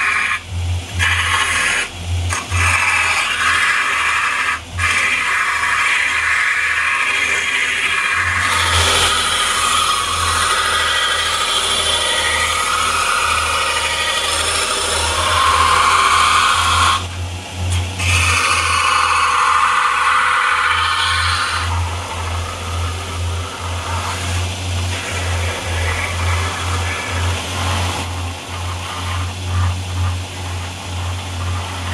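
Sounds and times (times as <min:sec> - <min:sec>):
belt grinder motor hum: 0:00.0 - 0:31.9.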